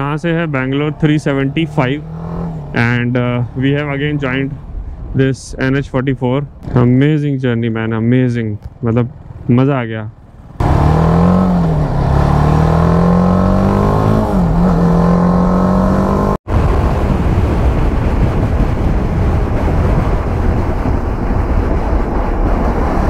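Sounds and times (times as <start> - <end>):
motorcycle engine accelerating: 0.0 - 4.3, 8.6 - 23.0
rushing wind noise: 0.0 - 7.2, 10.2 - 23.0.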